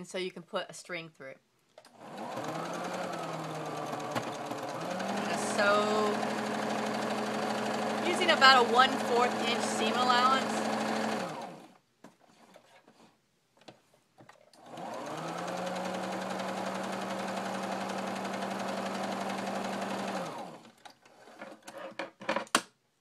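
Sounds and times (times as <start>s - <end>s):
sewing machine stitching: 1.9s - 13.1s, 14.4s - 22.0s.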